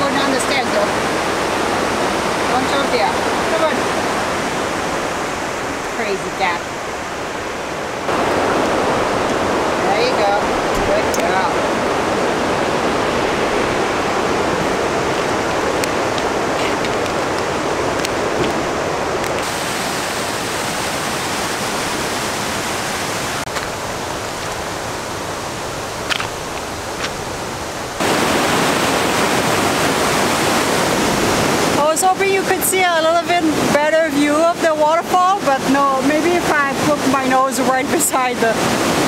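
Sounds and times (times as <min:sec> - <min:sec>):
rushing creek and waterfall: 0:00.0 - 0:39.0.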